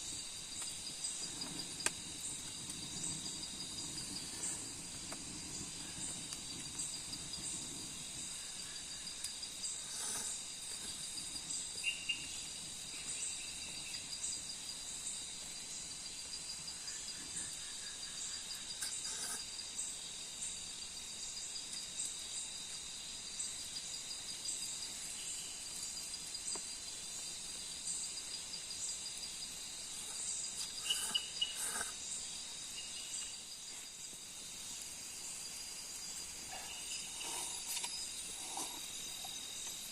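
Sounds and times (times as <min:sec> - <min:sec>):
insects chirping: 0:00.0 - 0:39.9
insects trilling: 0:00.0 - 0:39.9.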